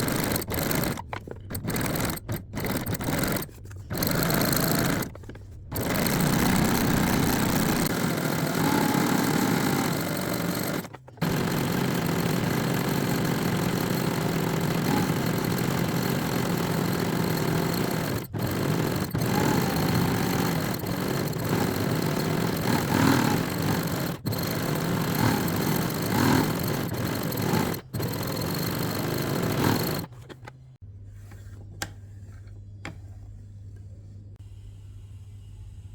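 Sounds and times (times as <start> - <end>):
sewing machine running fast: 0.0 - 5.1, 5.7 - 30.1.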